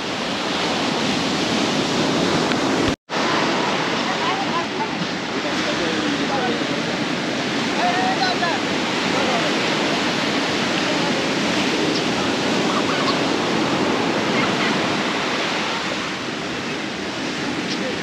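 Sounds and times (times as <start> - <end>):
sea surf breaking on beach: 0.0 - 18.0.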